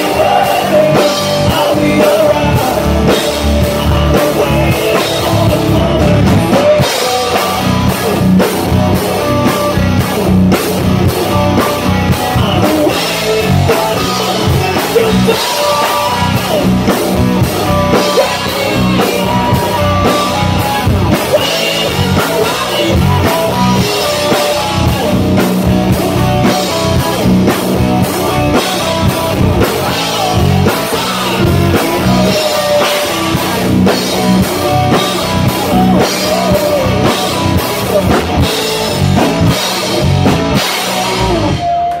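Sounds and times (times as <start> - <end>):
person singing through pa: 0.0 - 10.2, 11.0 - 40.1
drum kit beat: 0.0 - 42.0
electric bass: 0.0 - 42.0
electric guitar: 0.0 - 42.0.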